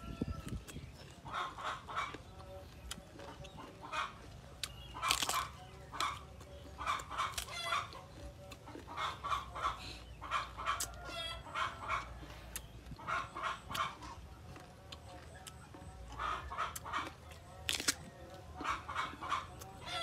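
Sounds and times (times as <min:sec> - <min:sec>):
chickens clucking: 0:00.0 - 0:20.0
chewing: 0:00.2 - 0:20.0
crunch of mango bitten: 0:00.3 - 0:09.8, 0:12.0 - 0:20.0.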